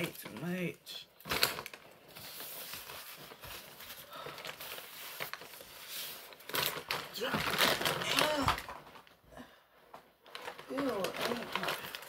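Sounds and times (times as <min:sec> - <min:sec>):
paper bag rustling and crinkling: 0:00.0 - 0:09.2, 0:10.1 - 0:12.0.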